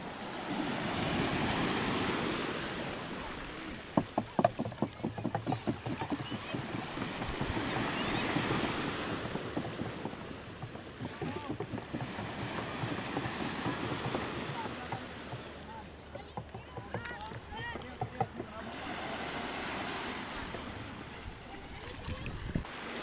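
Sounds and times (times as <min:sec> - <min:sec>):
small waves washing: 0:00.0 - 0:23.0.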